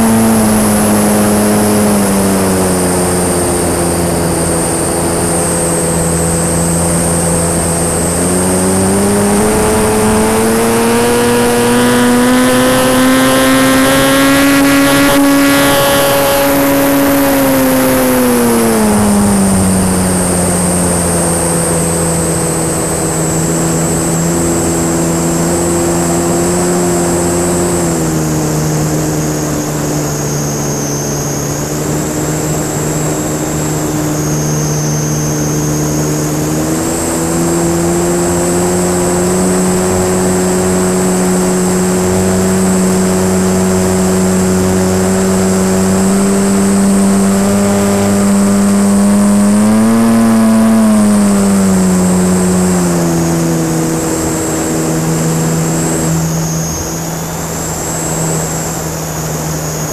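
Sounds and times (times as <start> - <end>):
electric motor and propeller drone: 0.0 - 59.9.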